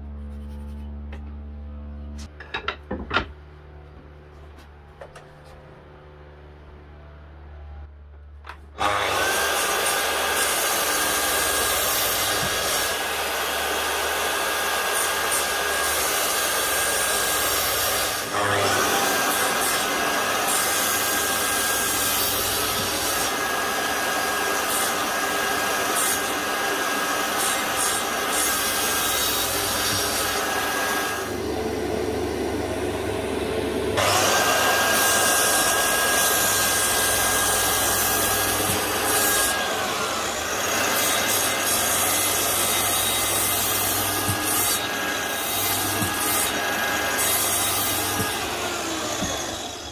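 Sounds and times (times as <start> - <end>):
power tool cutting wood: 8.5 - 49.9.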